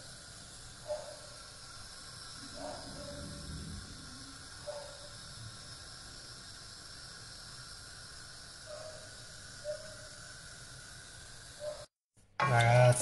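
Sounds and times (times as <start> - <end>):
pasta sauce hissing in pan: 0.0 - 11.9.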